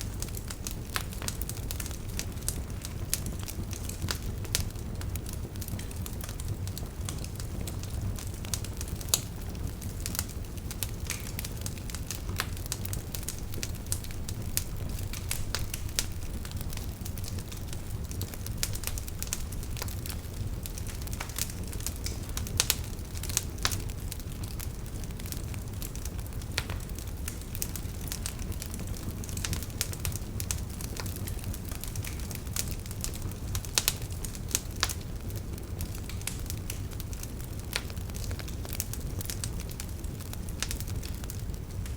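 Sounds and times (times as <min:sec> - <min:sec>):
low rumble of flame: 0:00.0 - 0:41.9
wood fire crackling: 0:00.0 - 0:41.9.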